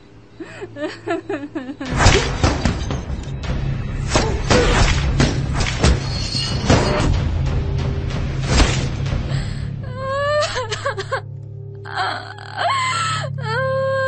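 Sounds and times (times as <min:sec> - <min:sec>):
dramatic film music: 0:00.0 - 0:14.0.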